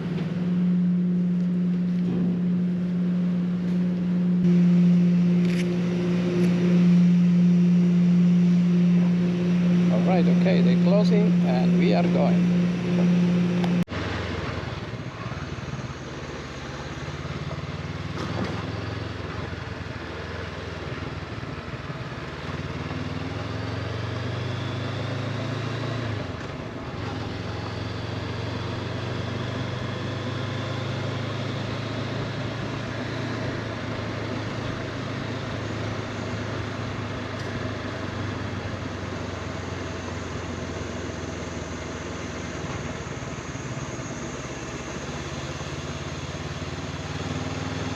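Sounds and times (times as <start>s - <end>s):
engine droning: 0.0s - 47.9s.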